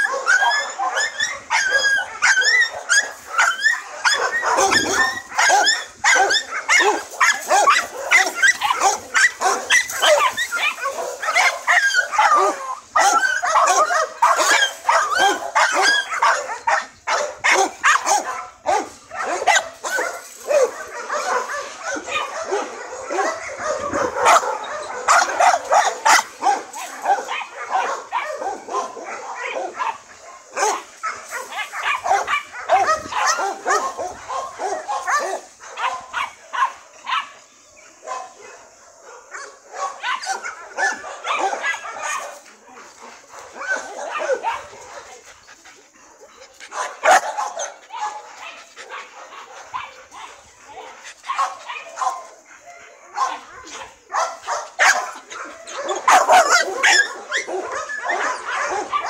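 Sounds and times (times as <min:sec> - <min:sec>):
dogs barking and yipping: 0:00.0 - 0:59.0.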